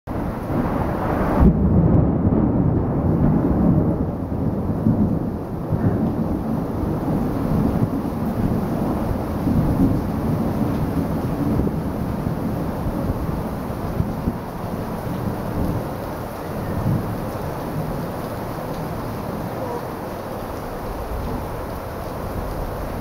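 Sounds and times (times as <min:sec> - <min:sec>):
gusting wind: 0:00.1 - 0:23.0
heavy rain downpour: 0:00.1 - 0:23.0.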